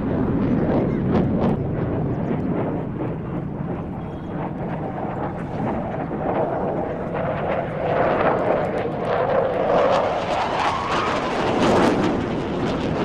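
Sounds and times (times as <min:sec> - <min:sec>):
jet roaring overhead: 0:00.0 - 0:13.0.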